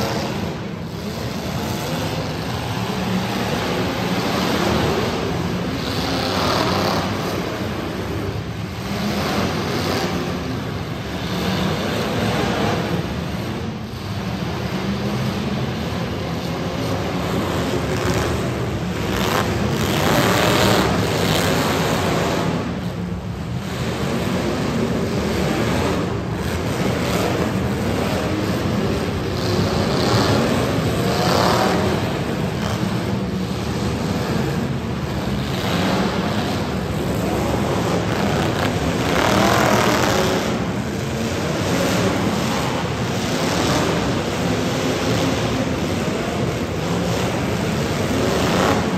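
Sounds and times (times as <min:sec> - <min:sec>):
car engines revving: 0:00.0 - 0:48.9.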